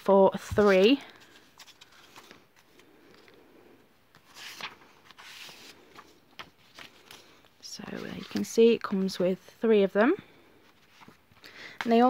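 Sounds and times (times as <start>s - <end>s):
paper notebooks rustling: 0.0s - 3.4s, 4.1s - 9.3s, 10.6s - 12.0s.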